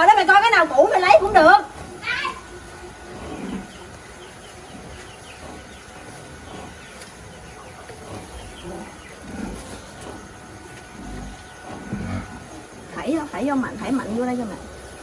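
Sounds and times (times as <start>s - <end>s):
birds chirping: 0.0s - 15.0s
farmyard background: 0.0s - 15.0s.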